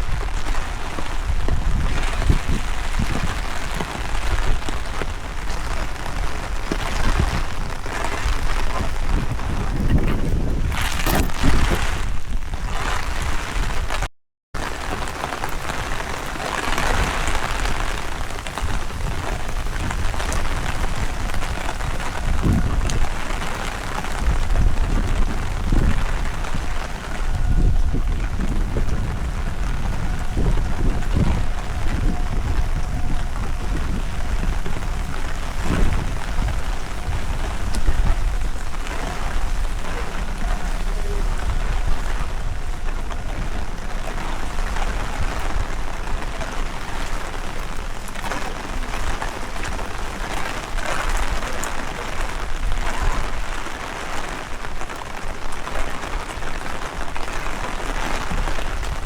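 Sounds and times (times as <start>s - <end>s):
heavy rain pattering: 0.0s - 59.0s
wind rumbling on microphone: 0.0s - 59.0s.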